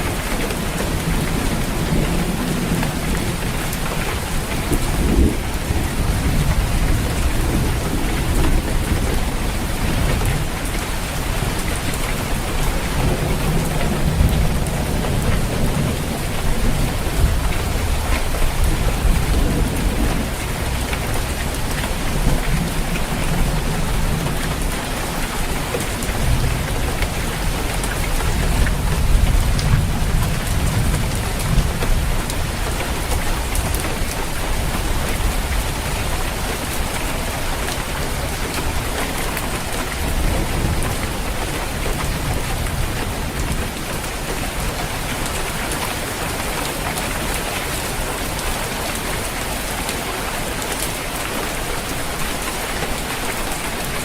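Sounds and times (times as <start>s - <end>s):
low thunder rumbling: 0.0s - 45.5s
heavy rain on a roof: 0.0s - 54.0s.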